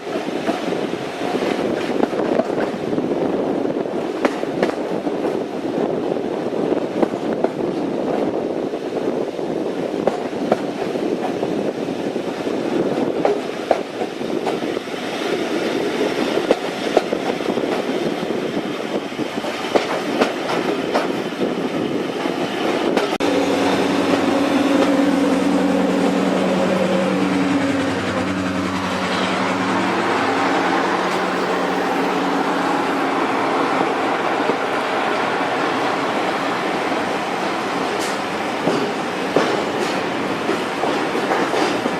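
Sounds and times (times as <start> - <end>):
train rumbling on rails: 0.0 - 41.9
diesel locomotive engine drone: 8.0 - 41.9.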